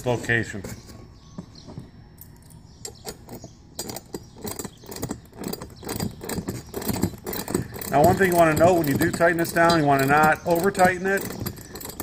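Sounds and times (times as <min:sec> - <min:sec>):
light metallic clicks and rattles: 0:02.2 - 0:12.0.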